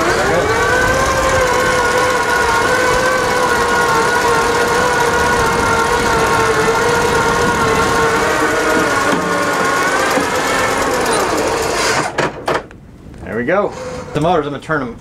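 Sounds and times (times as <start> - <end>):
electric motors whining: 0.0 - 12.2.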